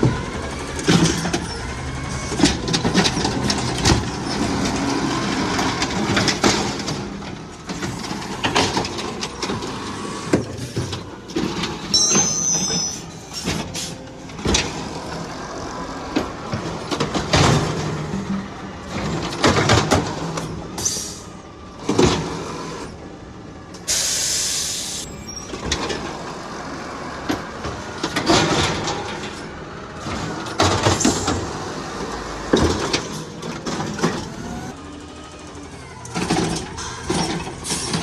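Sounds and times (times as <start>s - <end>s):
hydraulic whine: 0.0s - 23.1s, 23.7s - 38.0s
diesel engine running: 0.0s - 38.0s.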